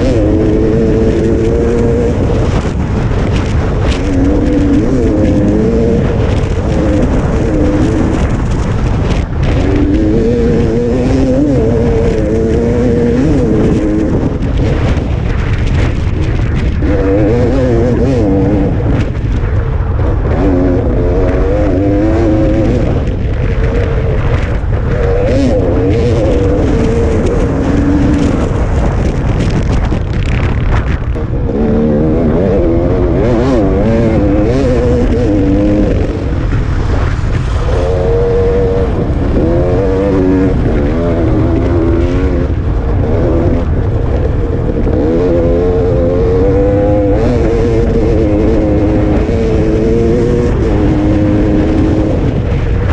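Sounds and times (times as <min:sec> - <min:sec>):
dirt bike engine revving: 0:00.0 - 0:52.9
wind rumble on microphone: 0:00.0 - 0:52.9.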